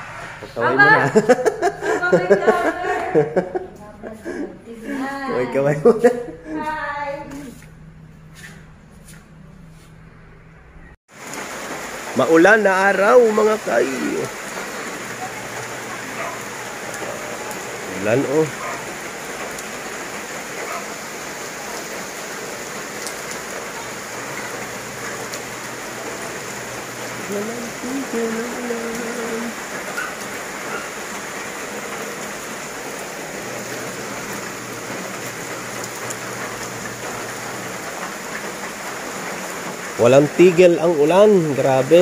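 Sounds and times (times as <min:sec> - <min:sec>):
rain on leaves: 0:00.0 - 0:08.7, 0:11.1 - 0:42.0.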